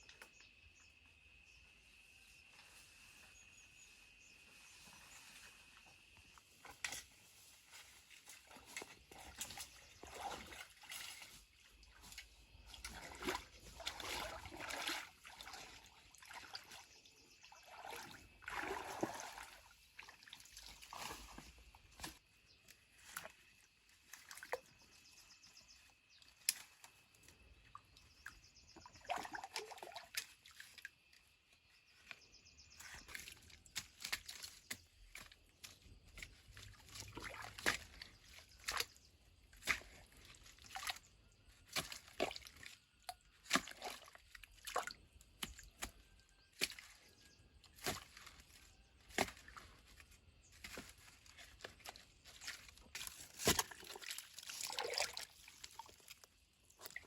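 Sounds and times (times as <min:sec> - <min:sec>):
water sloshing and trickling: 0:00.0 - 0:57.0.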